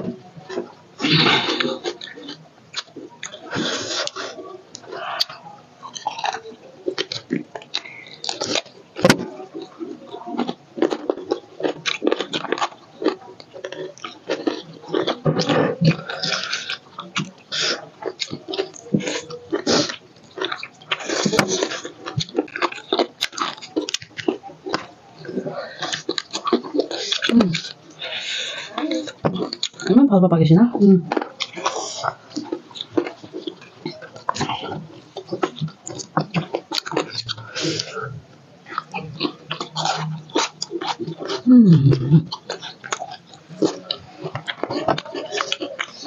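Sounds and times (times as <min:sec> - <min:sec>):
people chewing and lip-smacking: 0:00.0 - 0:30.1, 0:30.7 - 0:46.0.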